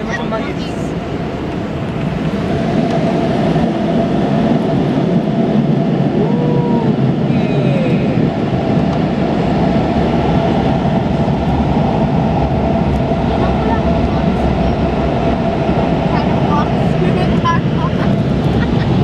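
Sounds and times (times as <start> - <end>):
car wash air blowers rushing: 0.0 - 19.0.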